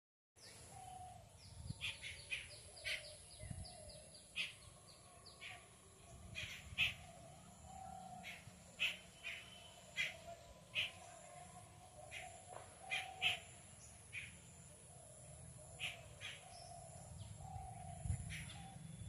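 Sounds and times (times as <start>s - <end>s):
birds chirping: 0.4s - 19.0s.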